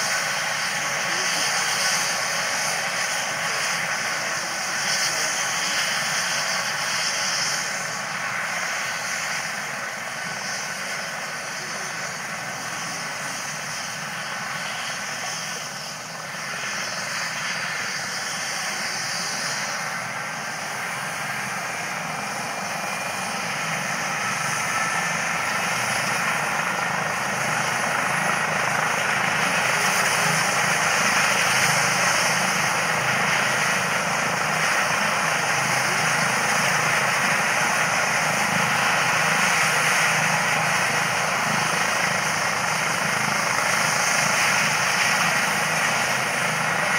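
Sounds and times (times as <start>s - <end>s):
helicopter rotor: 0.0s - 46.9s
helicopter turbine whine: 0.0s - 46.9s.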